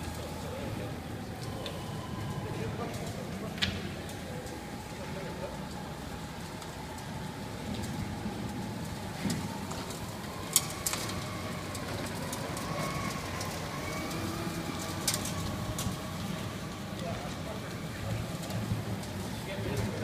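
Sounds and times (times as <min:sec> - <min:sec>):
ride-on sweeper running: 0:00.0 - 0:20.0.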